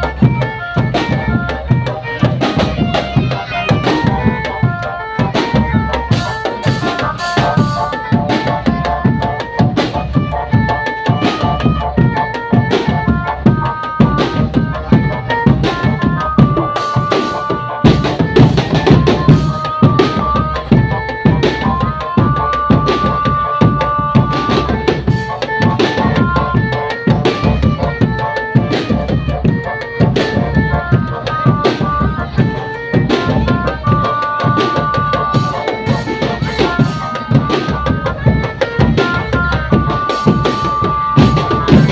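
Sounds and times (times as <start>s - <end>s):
melody of held notes: 0.0s - 41.9s
snare and bass drum beats: 0.0s - 41.9s.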